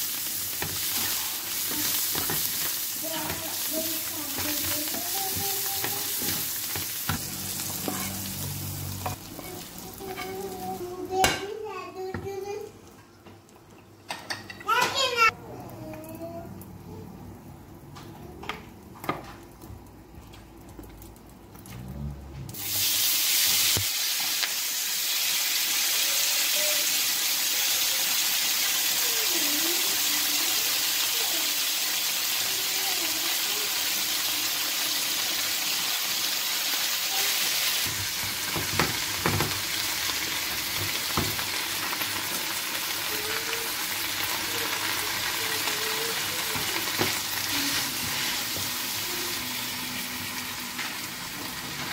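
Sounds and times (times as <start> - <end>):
leaves sizzling in hot oil: 0.0 - 11.2, 20.7 - 51.9.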